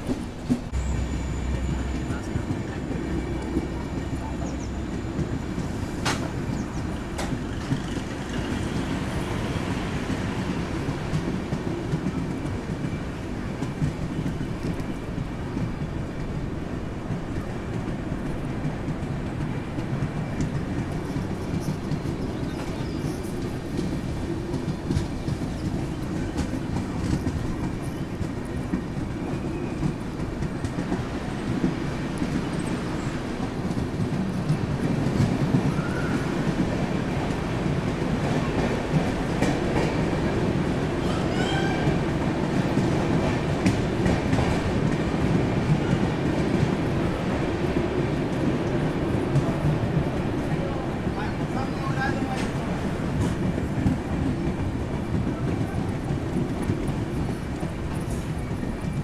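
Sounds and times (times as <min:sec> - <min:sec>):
clickety-clack of rails: 0:00.0 - 0:59.0
train wheels rumbling on track: 0:00.0 - 0:59.0.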